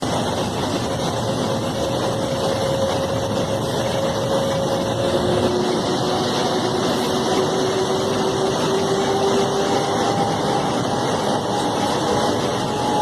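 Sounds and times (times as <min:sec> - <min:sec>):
locomotive running rumble: 0:00.0 - 0:13.0.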